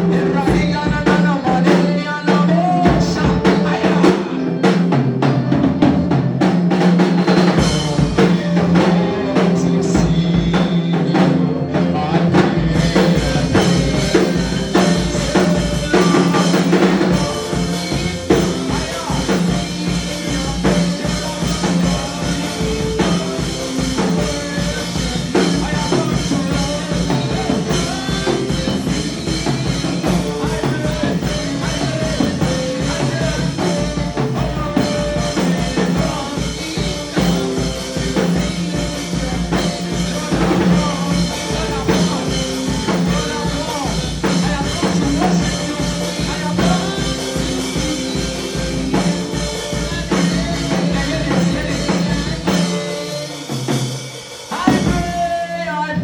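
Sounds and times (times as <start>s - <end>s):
gospel music with drums and bass: 0.0s - 56.0s.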